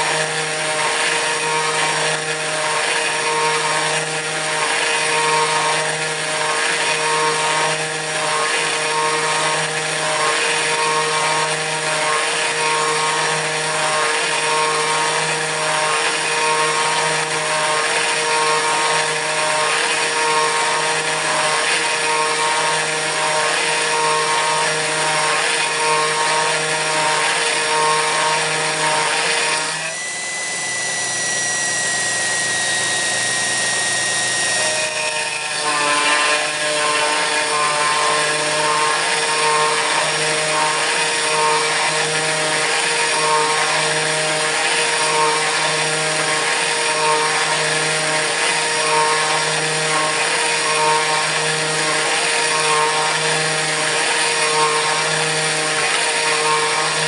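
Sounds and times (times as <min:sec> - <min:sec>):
milling aluminium cutting sound: 0:00.0 - 0:57.0
router spindle high whine: 0:00.0 - 0:57.0.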